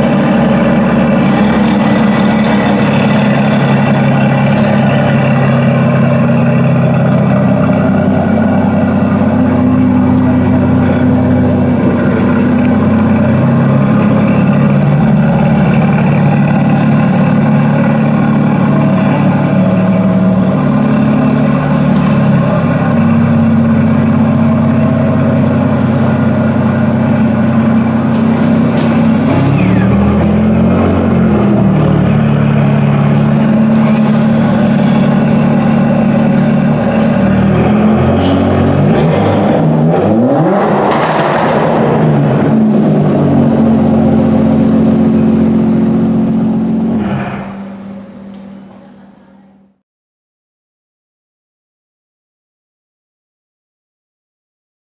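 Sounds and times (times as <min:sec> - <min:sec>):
car engine idling: 0:00.0 - 0:49.8.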